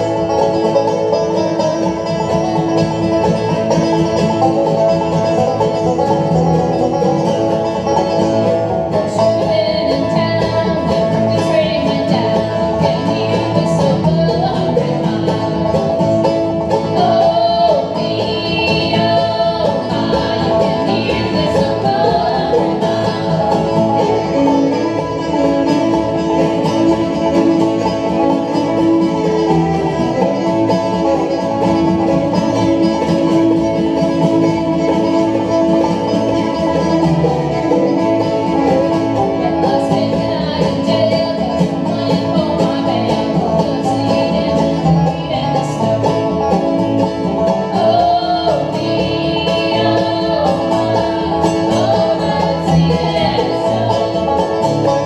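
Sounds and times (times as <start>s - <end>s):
acoustic guitar: 0.0s - 55.0s
banjo: 0.0s - 55.0s
fiddle: 0.0s - 55.0s
mandolin: 0.0s - 55.0s
upright bass: 0.0s - 55.0s.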